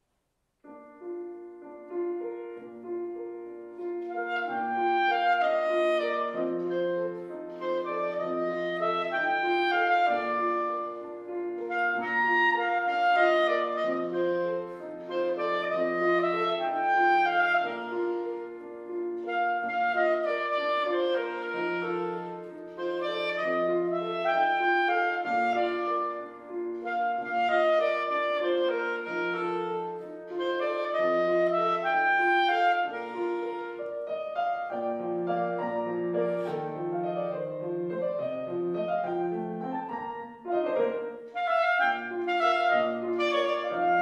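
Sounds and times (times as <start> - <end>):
grand piano accompaniment: 0.5 - 44.0
clarinet melody: 0.7 - 44.0.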